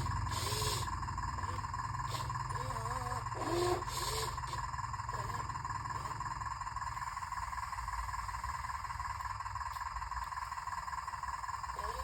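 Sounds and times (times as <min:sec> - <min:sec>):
toy excavator whine: 0:00.0 - 0:12.0.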